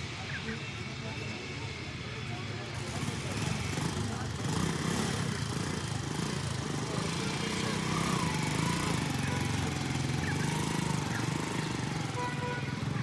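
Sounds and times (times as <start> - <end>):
small motor droning: 0.6 - 13.0.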